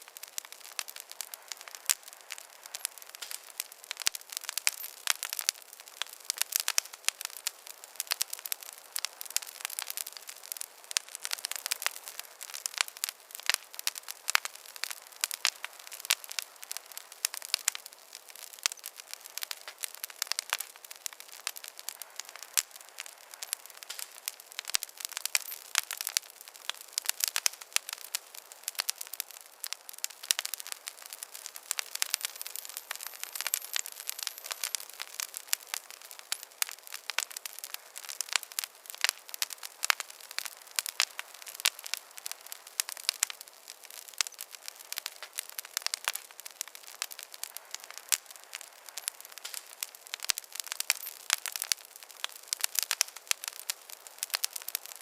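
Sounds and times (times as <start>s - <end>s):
campfire crackles and pops: 0.0s - 55.0s
faint hiss of flame: 0.0s - 55.0s.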